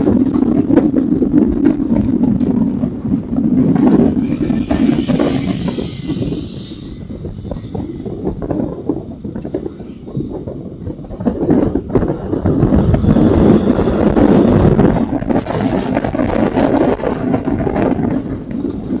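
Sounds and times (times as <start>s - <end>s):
motorcycle exhaust rumble: 0.0s - 19.0s
wind buffeting microphone: 0.0s - 19.0s.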